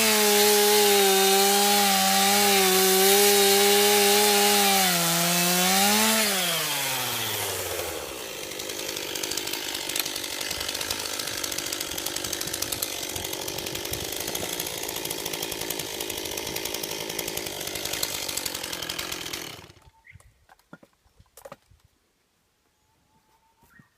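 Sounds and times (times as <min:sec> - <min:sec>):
chainsaw engine running: 0:00.0 - 0:19.8.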